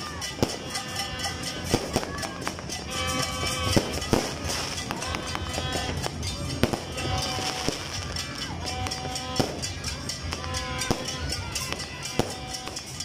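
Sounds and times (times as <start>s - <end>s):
fireworks and firecrackers banging: 0.0s - 13.0s
music: 0.0s - 13.0s
voices: 0.0s - 13.0s.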